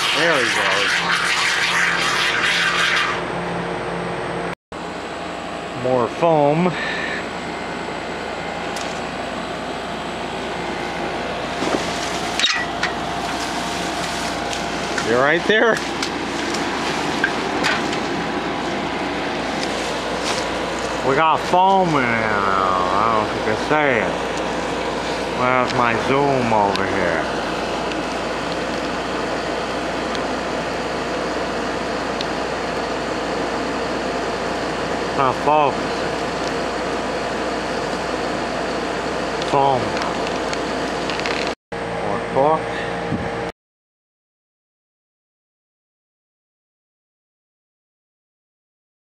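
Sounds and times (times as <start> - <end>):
air conditioner hum: 0.0 - 43.5.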